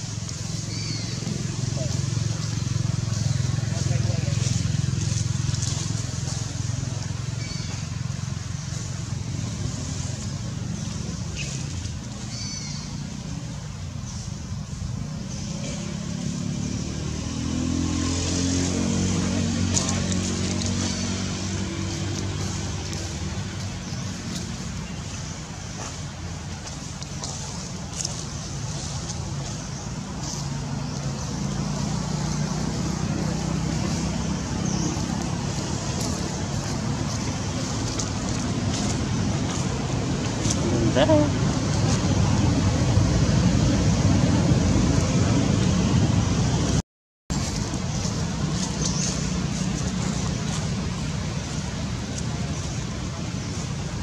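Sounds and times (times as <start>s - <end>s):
low rumbling background noise: 0.0s - 54.0s
vehicle engine humming: 0.0s - 54.0s.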